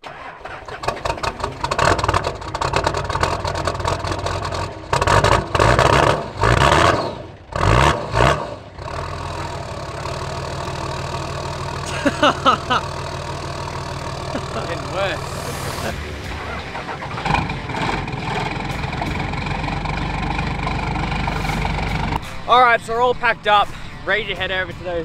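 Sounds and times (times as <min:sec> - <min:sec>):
diesel engine idling: 0:00.0 - 0:07.8, 0:08.6 - 0:25.0
diesel engine running rough and revving: 0:00.1 - 0:22.4.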